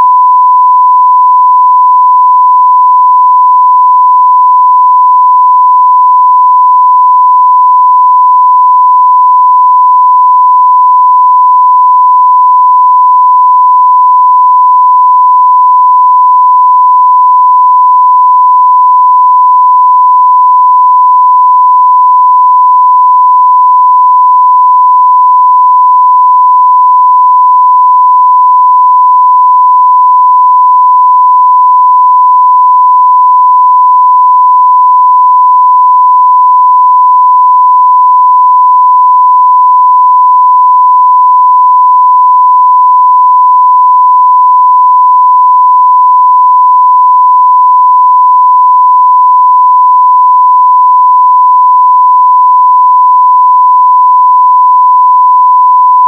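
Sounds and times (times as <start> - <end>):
sine test tone: 0.0 - 56.0.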